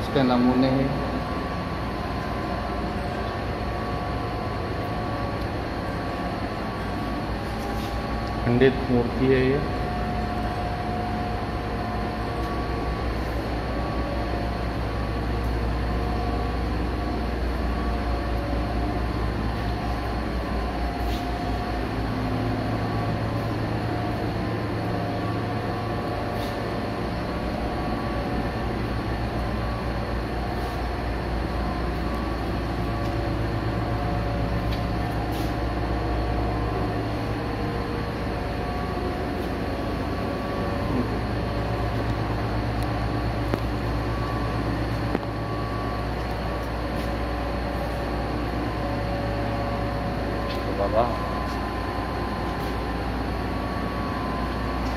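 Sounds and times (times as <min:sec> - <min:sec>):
low machine hum: 0:00.0 - 0:54.9
faint whining tones: 0:01.1 - 0:54.9.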